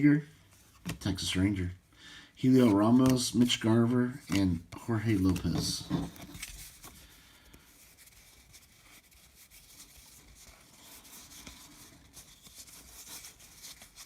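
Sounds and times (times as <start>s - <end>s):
baseball cards rustling: 0.4s - 1.7s, 2.4s - 14.0s.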